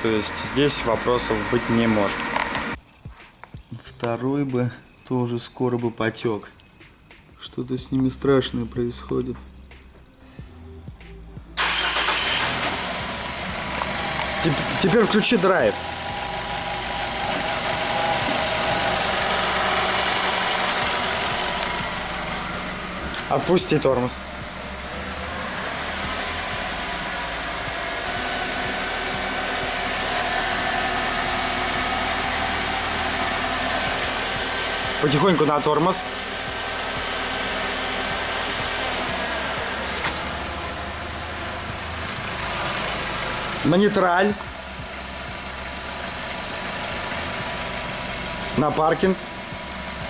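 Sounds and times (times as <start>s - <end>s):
car engine idling: 0.0s - 2.8s, 8.1s - 50.0s.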